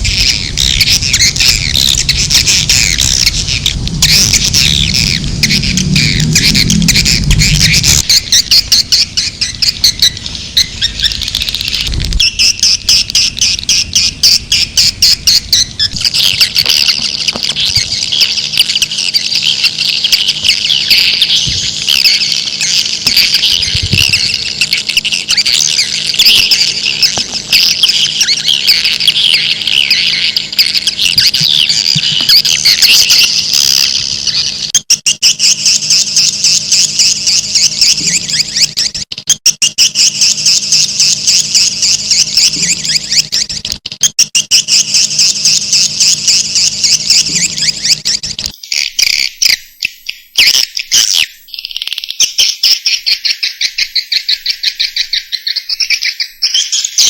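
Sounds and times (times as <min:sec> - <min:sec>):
flock of birds chirping: 0:00.0 - 0:34.8, 0:35.4 - 0:39.0, 0:40.0 - 0:43.8, 0:44.6 - 0:57.0.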